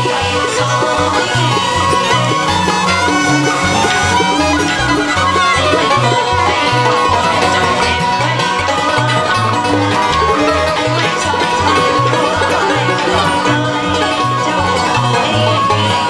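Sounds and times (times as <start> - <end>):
plucked string instruments: 0.0 - 16.0.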